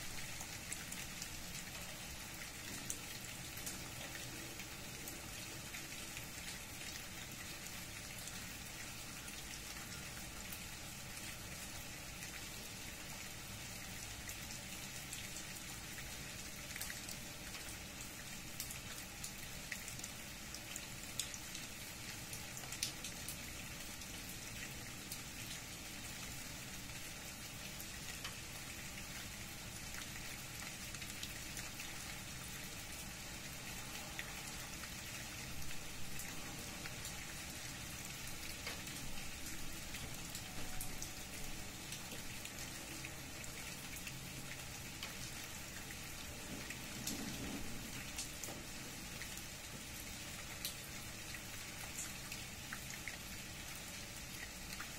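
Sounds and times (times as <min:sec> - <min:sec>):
rain falling through tree leaves: 0:00.0 - 0:54.9.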